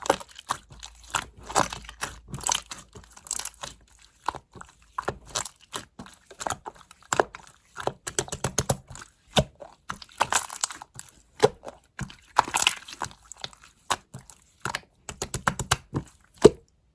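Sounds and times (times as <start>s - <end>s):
slime squished by hand: 0.0s - 16.7s.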